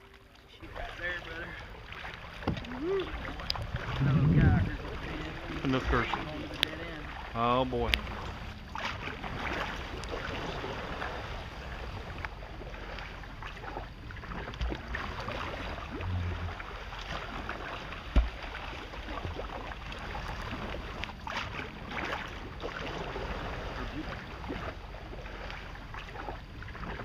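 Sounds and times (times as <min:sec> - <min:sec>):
paddle splashing in water: 0:00.0 - 0:27.0.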